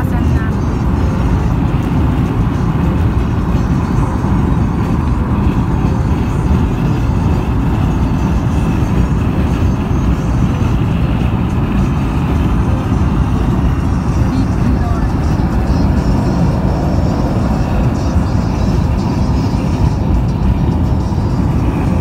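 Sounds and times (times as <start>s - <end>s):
road and tyre noise: 0.0s - 22.0s.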